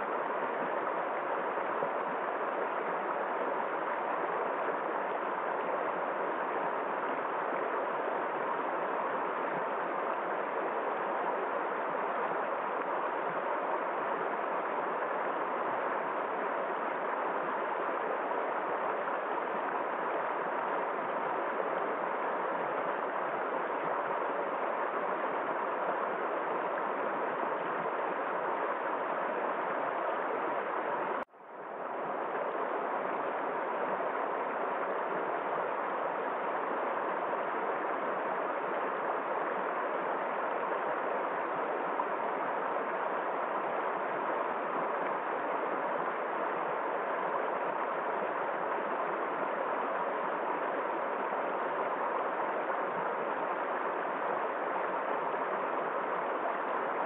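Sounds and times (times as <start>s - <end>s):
river rushing over stones: 0.0s - 57.0s.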